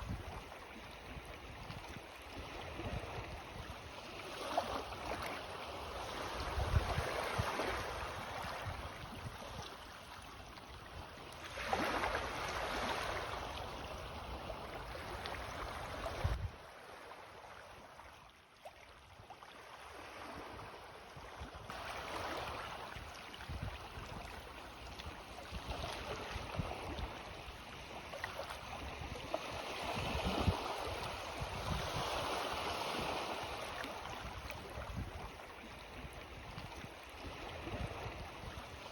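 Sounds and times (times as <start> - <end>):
sea waves lapping: 0.0 - 38.9.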